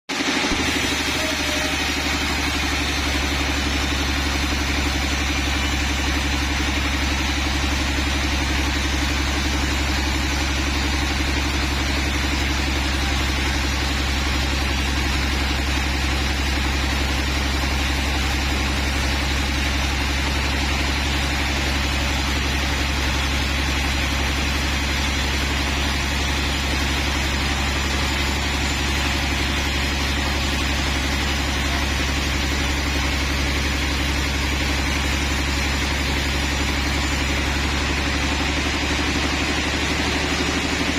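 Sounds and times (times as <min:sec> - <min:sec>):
sawmill machinery drone: 0:00.1 - 0:40.9.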